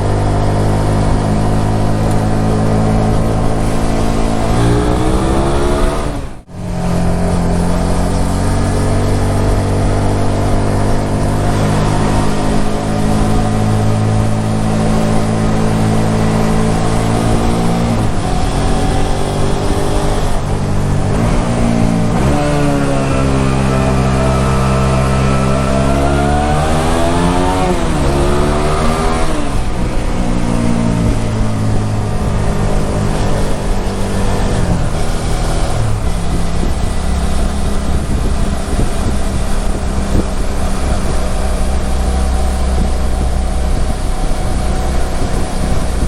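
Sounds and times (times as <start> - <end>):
motorcycle engine revving: 0.0 - 46.0
road noise: 0.0 - 46.0
rushing wind: 0.0 - 46.0.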